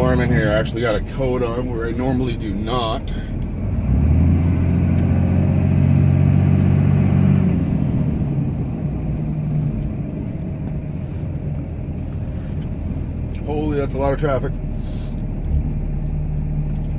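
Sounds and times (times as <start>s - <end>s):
diesel pickup engine working hard: 0.0s - 16.9s.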